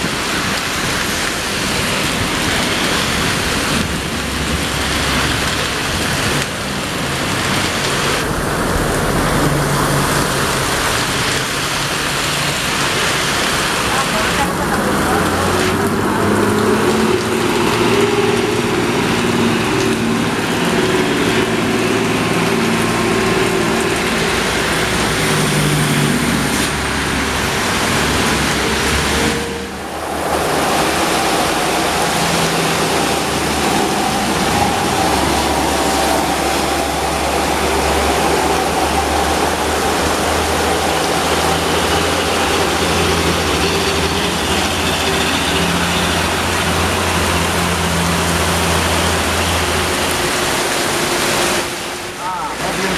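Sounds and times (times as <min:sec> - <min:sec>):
rain hissing: 0:00.0 - 0:52.9.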